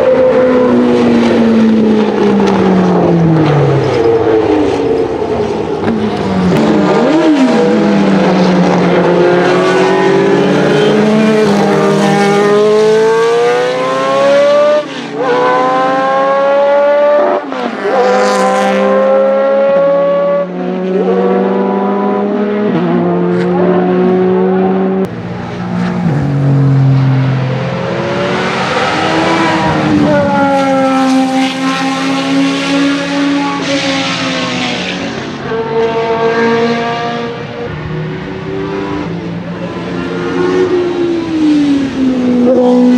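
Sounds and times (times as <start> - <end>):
racing car engine accelerating: 0.0 - 42.9.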